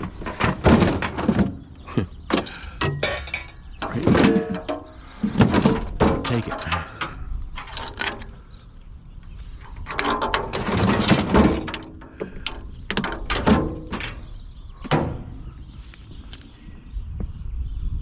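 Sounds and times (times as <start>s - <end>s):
scrap metal clattering: 0.0s - 8.5s, 9.5s - 15.8s.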